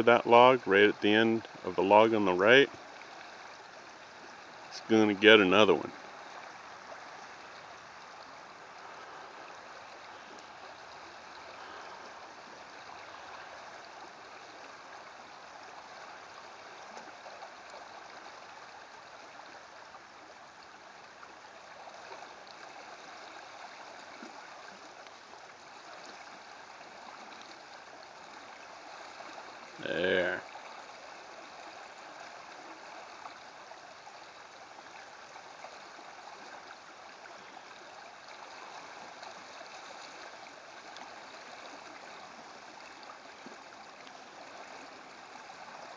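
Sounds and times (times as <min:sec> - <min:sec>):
river water rushing: 0:01.2 - 0:45.9.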